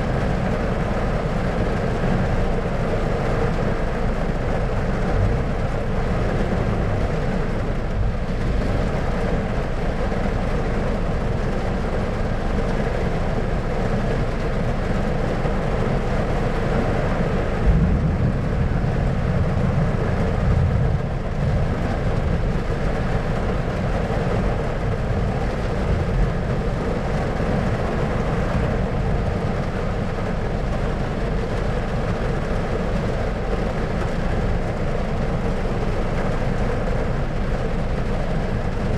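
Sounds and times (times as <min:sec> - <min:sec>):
thunderstorm low rumbling: 0:00.0 - 0:38.9.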